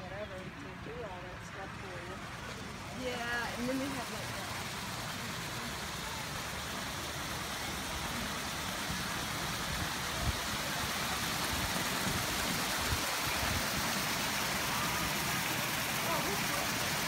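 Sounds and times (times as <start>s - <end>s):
fountain water splashing into pool: 0.0s - 17.0s.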